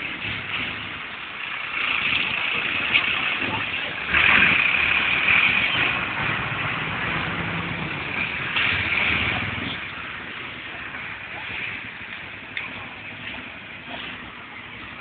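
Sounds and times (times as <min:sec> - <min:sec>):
fire engine diesel engine passing: 0:00.0 - 0:15.0.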